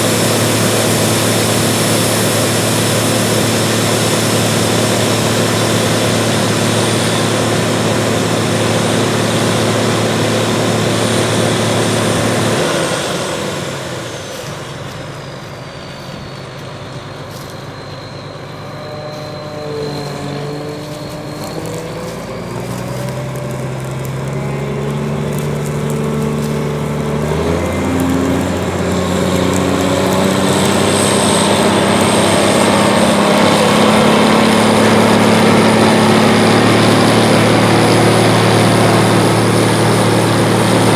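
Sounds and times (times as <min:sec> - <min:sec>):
combine harvester engine running: 0:00.0 - 0:40.9
high mechanical whine: 0:00.0 - 0:40.9.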